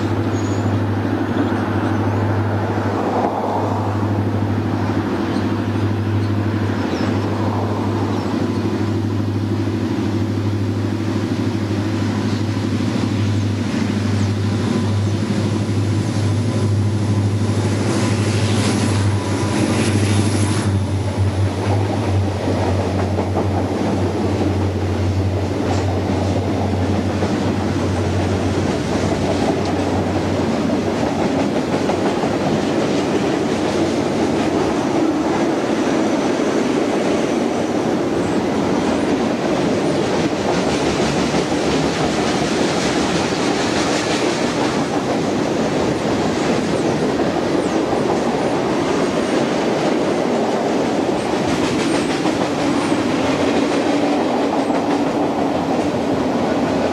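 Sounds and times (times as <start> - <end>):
train rolling past: 0.0 - 56.9.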